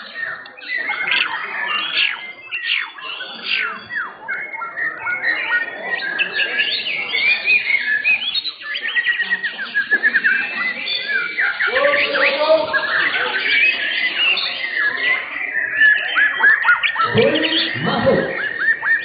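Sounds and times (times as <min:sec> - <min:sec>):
songbirds whistling and chirping: 0:00.0 - 0:19.0.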